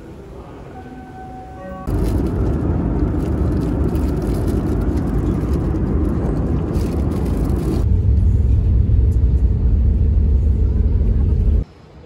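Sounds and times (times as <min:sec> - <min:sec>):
airliner cabin engine rumble: 0:01.5 - 0:11.7.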